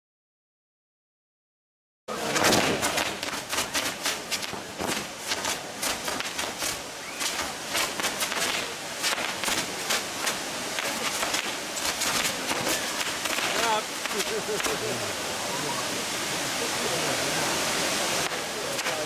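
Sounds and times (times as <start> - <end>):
firework fountains hissing and crackling: 2.1 - 19.0.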